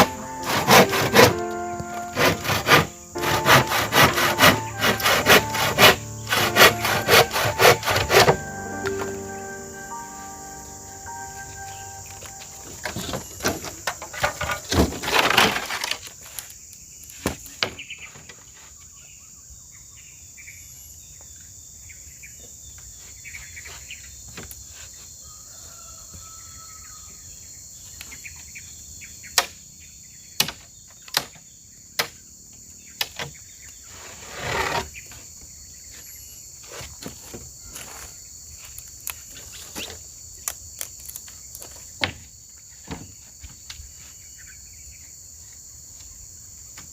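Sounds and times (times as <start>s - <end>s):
insects chirping: 0.0s - 46.9s.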